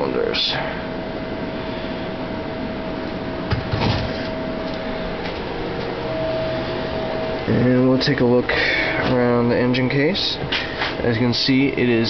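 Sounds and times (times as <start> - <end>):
background hum: 0.0 - 12.0
faint high whine: 0.0 - 12.0.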